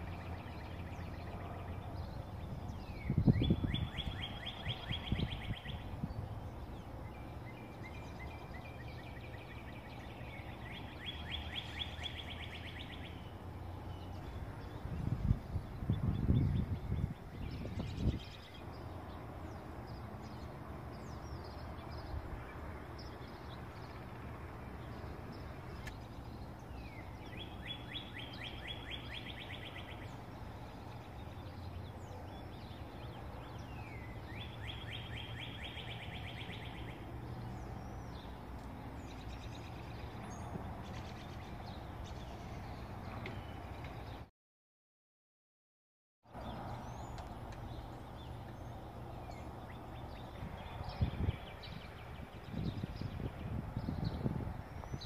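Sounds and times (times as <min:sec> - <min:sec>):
songbirds singing: 0:00.0 - 0:44.3, 0:46.3 - 0:55.0.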